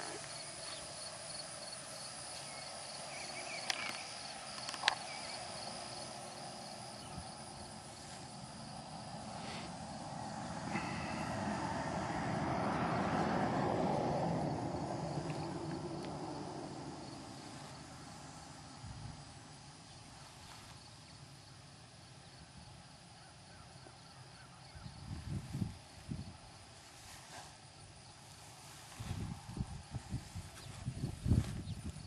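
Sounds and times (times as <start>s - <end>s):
faint insect chirring: 0.0s - 11.8s, 14.5s - 32.0s.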